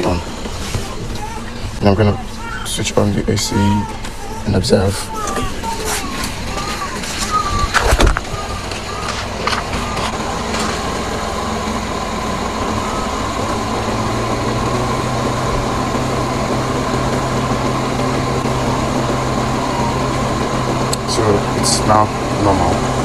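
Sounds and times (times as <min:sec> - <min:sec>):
car engine idling: 0:00.0 - 0:23.0
engine cooling fan running: 0:00.0 - 0:23.0.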